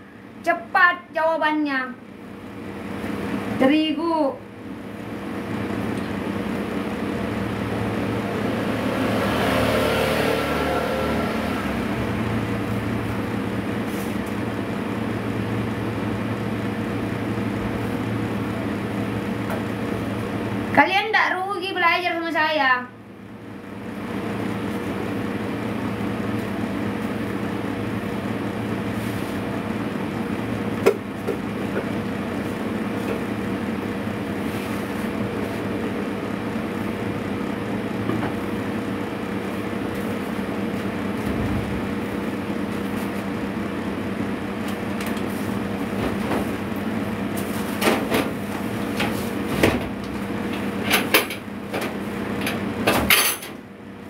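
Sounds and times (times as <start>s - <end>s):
appliance humming: 0.0s - 54.0s.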